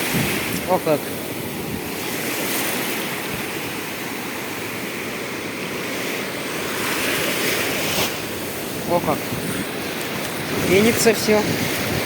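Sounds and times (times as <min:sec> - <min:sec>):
stormy sea surf breaking: 0:00.0 - 0:12.0.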